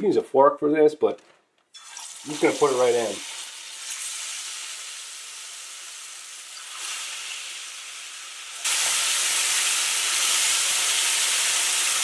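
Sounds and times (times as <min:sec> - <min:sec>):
fish deep-frying in hot oil: 0:01.8 - 0:12.0.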